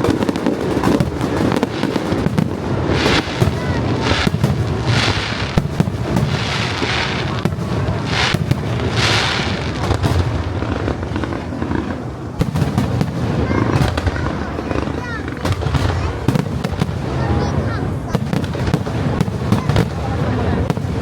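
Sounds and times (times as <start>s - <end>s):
crackling hiss of firework shells: 0.0s - 21.0s
firework bangs: 0.0s - 21.0s.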